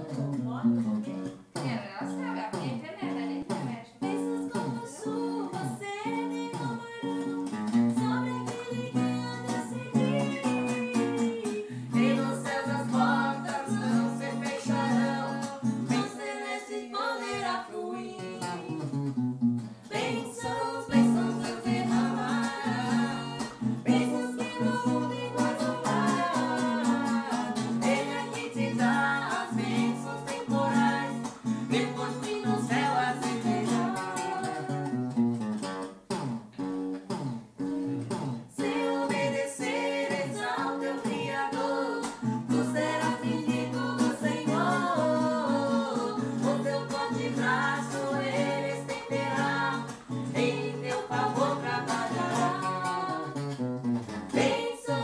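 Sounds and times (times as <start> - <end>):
acoustic guitar strumming: 0.0 - 55.0
woman singing a hymn: 4.0 - 7.4, 8.0 - 18.7, 19.9 - 34.9, 38.6 - 53.4, 54.4 - 55.0.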